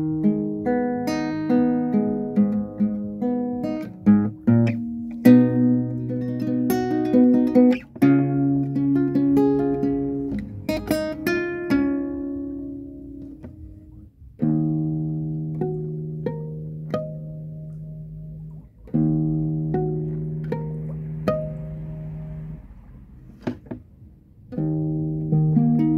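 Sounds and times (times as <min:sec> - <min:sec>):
solo guitar playing: 0:00.0 - 0:25.9.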